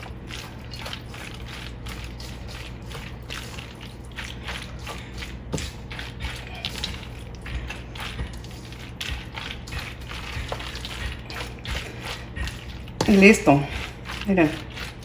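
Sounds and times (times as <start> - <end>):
wet squelching and scraping: 0.0 - 15.0.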